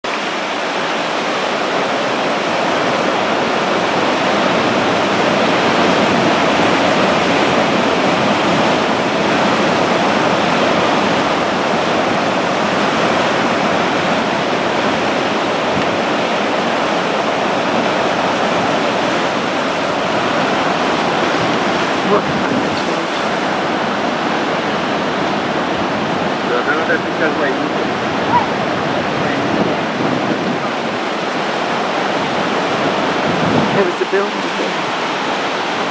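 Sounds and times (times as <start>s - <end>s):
heavy surf breaking: 0.0s - 35.9s.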